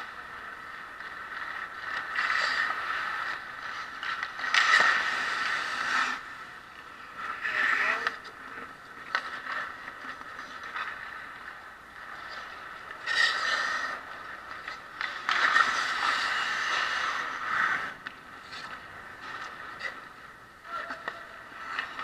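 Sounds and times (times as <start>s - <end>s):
skate blades scraping ice: 0.0s - 22.0s.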